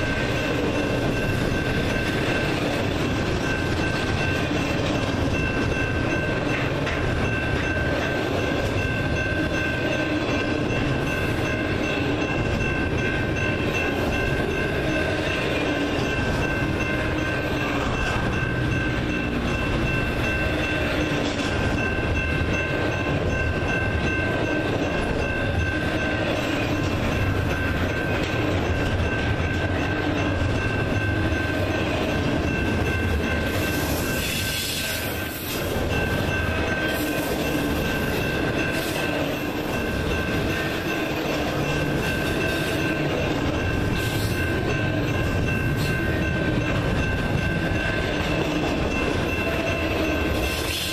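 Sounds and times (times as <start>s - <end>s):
train wheels on rail: 0.0s - 50.9s.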